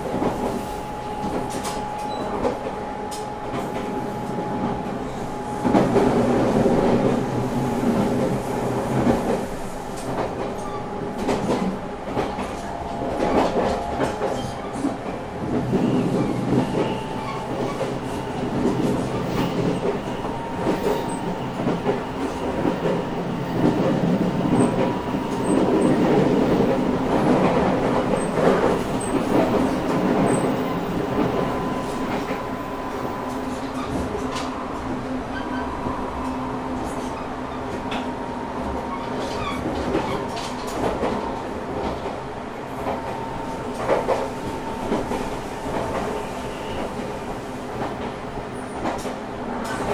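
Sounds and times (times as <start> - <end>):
rail joint clicks: 0.0 - 49.9
train wheels rumbling on rail: 0.0 - 49.9.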